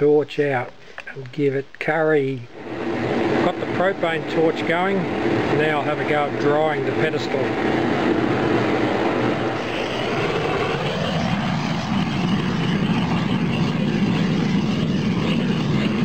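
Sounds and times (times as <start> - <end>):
propane torch flame rushing: 2.5 - 16.0.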